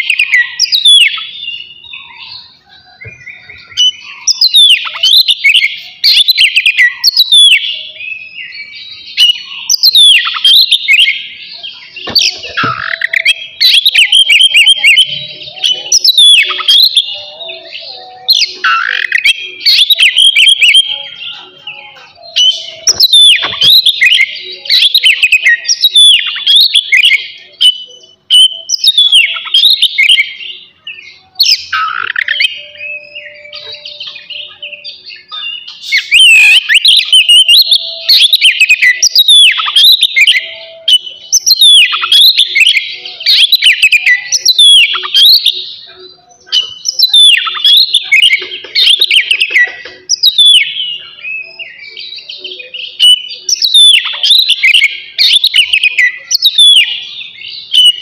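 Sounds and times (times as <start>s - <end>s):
bird singing whistles and chatter: 0.0s - 58.0s.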